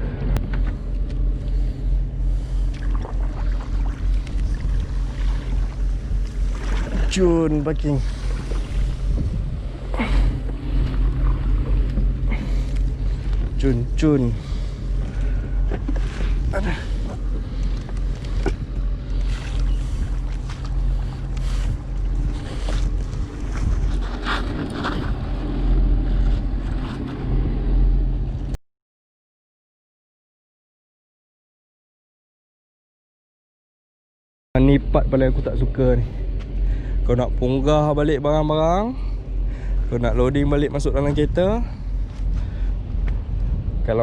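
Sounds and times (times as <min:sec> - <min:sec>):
wind buffeting microphone: 0:00.0 - 0:28.5, 0:36.2 - 0:44.0
pedal drive humming and pulsing: 0:00.0 - 0:28.6, 0:34.6 - 0:44.0.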